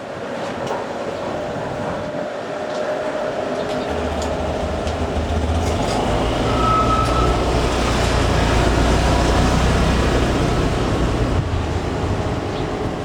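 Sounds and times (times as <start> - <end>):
ship engines rumbling: 0.0 - 13.0.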